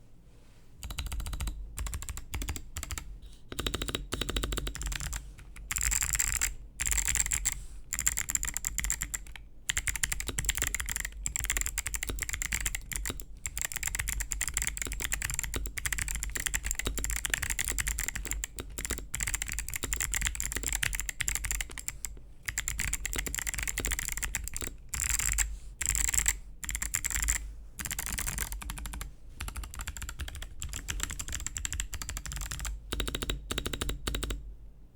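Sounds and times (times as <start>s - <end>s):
mechanical keyboard typing: 0.8s - 34.4s.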